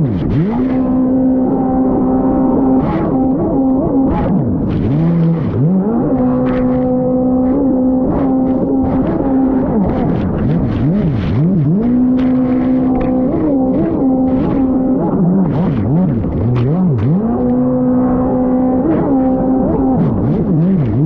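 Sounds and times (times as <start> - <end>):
jet ski engine revving: 0.0 - 21.0.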